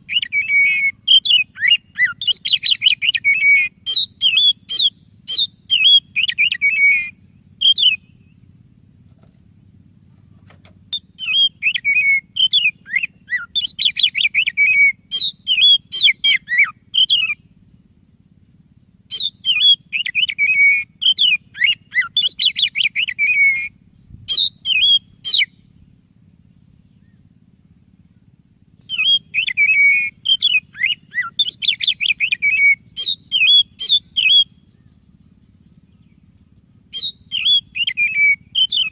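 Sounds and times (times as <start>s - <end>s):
bird singing whistles and trills: 0.0s - 8.5s, 10.9s - 38.9s
faint low hum: 0.0s - 38.9s.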